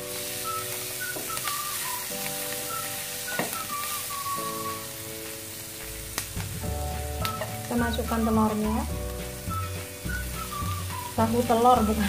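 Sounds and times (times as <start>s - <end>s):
background music: 0.0s - 12.0s
vegetables sizzling in butter: 0.0s - 12.0s.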